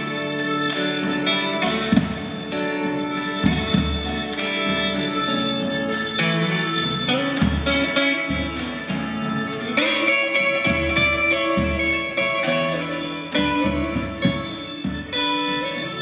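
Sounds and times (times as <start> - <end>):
slow electric guitar notes: 0.0 - 16.0.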